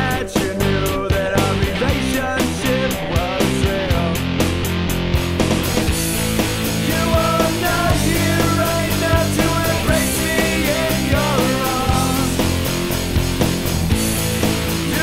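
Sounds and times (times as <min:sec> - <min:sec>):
rock music with drum beat: 0:00.0 - 0:15.0.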